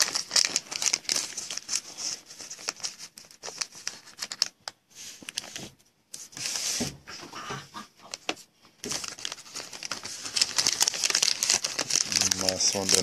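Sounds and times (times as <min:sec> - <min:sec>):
foil wrapper crinkling and tearing: 0:00.0 - 0:05.6, 0:08.1 - 0:13.0.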